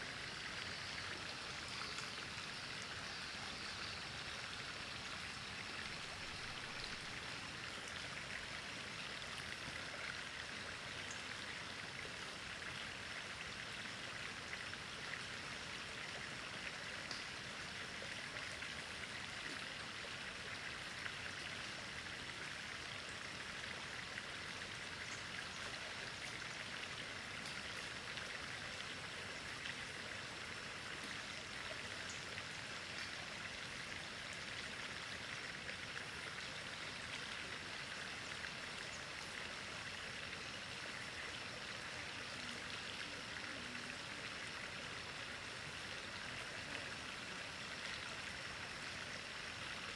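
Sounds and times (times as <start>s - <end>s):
stream water flowing: 0.0s - 49.9s.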